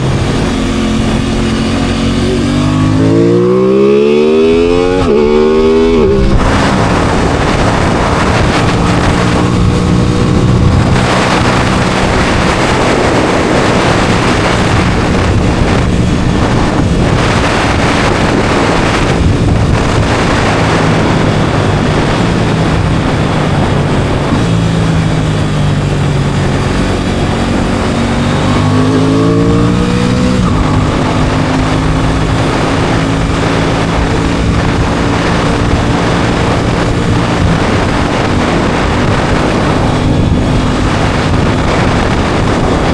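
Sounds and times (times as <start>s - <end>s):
motorcycle engine revving: 0.0s - 42.9s
wind rushing over microphone: 0.0s - 42.9s.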